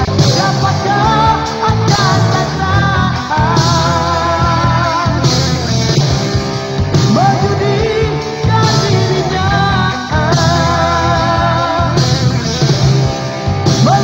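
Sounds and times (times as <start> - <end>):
rock music with singing: 0.0 - 14.0.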